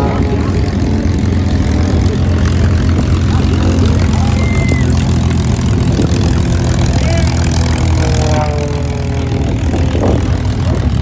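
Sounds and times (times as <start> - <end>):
propeller aircraft engine running: 0.0 - 11.0
wind buffeting microphone: 0.0 - 11.0.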